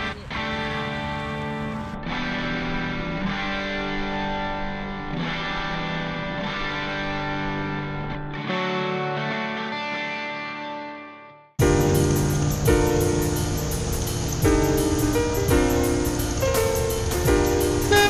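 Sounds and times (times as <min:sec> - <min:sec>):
music with distorted electric guitar: 0:00.0 - 0:18.0.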